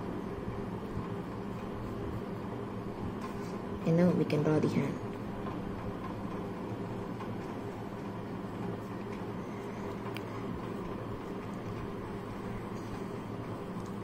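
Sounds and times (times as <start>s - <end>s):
low mechanical room hum: 0.0s - 14.0s.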